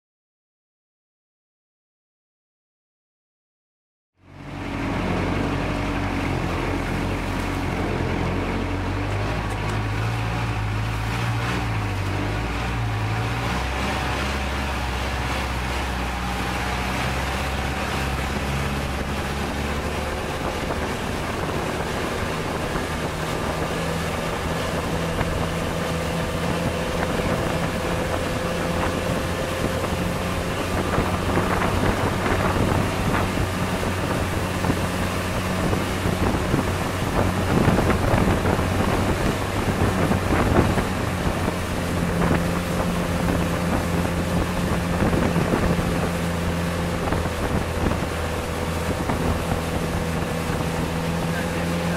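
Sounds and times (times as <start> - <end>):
boat engine running: 4.2 - 51.9
water rushing past hull: 4.2 - 51.9
wind on microphone: 4.3 - 51.9.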